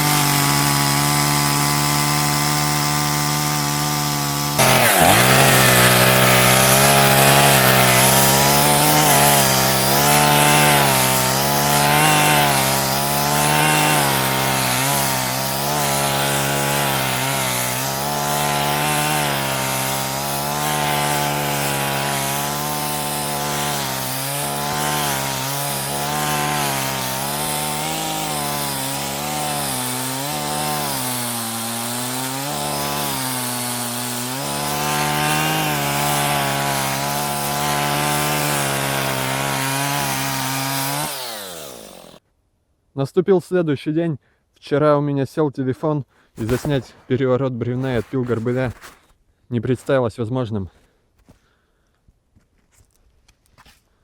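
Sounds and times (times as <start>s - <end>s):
chainsaw ripping log: 0.0s - 42.2s, 46.4s - 49.2s.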